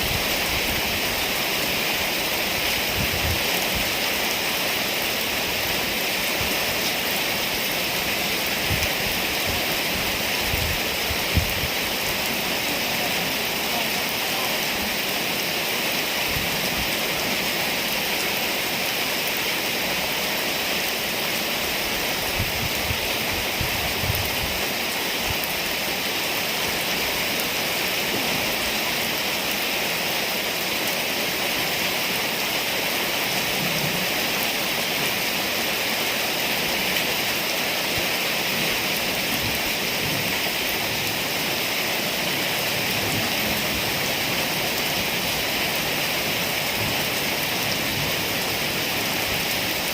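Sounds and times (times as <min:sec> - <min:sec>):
rain pouring: 0:00.0 - 0:49.9.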